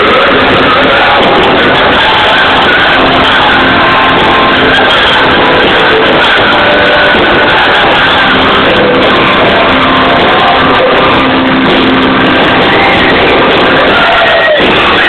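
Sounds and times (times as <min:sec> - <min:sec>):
distorted live dance band: 0:00.0 - 0:15.0.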